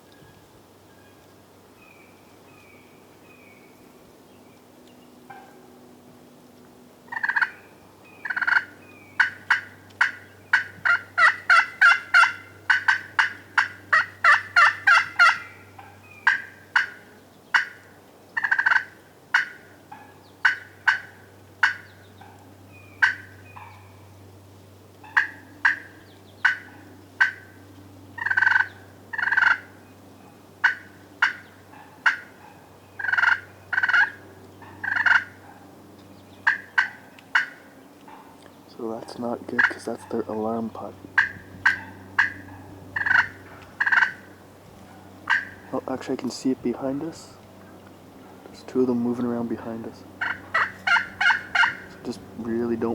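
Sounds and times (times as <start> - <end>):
wild turkeys putting: 6.6 - 24.1, 24.7 - 30.0, 30.6 - 52.9.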